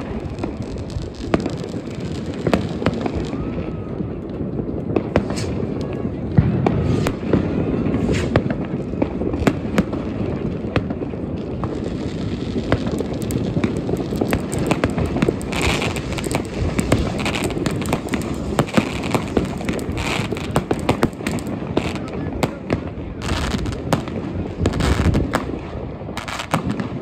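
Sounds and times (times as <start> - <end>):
fireworks crackling: 0.0 - 27.0
rumble of firework bangs: 0.0 - 27.0
sharp firework cracks: 0.0 - 27.0.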